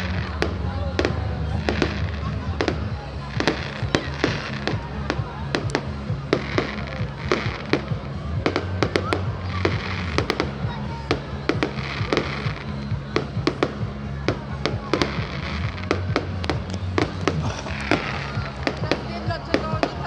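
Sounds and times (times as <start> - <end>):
fireworks bangs and crackling: 0.0 - 20.0
music playing: 0.0 - 20.0.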